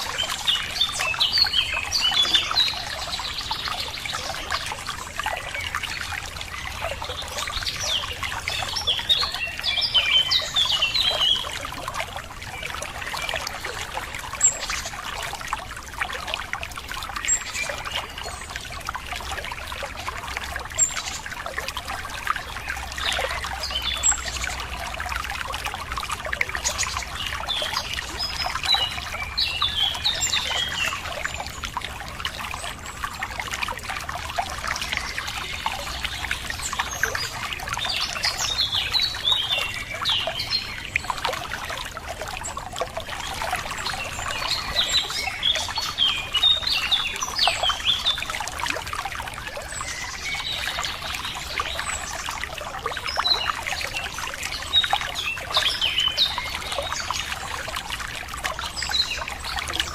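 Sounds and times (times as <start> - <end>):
songbirds chirping: 0.0 - 59.9
water trickling: 0.0 - 59.9.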